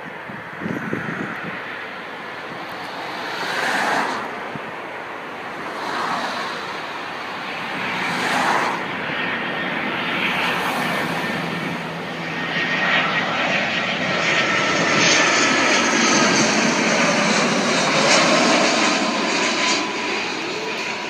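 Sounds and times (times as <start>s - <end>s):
airliner engine noise: 0.0s - 21.0s
wind gusts: 0.0s - 21.0s.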